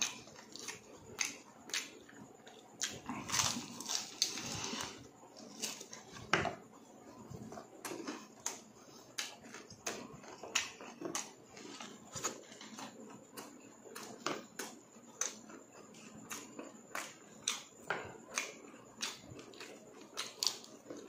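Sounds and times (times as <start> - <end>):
close chewing: 0.0 - 6.3, 7.0 - 21.0.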